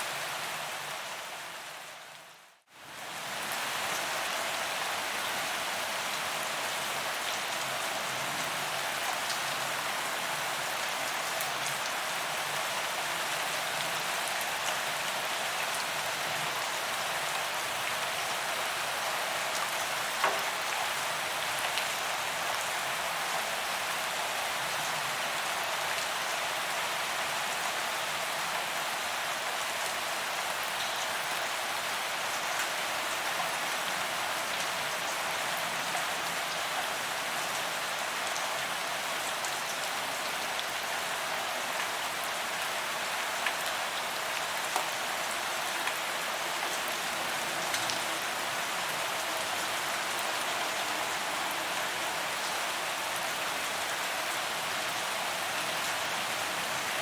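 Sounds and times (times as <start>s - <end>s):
rain falling on pavement: 0.0s - 57.0s.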